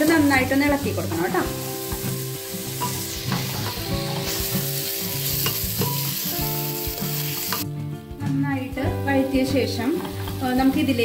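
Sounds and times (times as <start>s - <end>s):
food sizzling in a pot: 0.0s - 7.7s, 9.3s - 11.0s.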